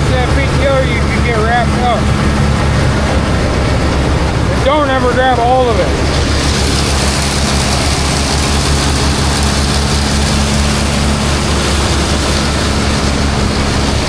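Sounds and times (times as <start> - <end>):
silage blower rushing: 0.0 - 14.0
tractor engine droning: 0.0 - 14.0.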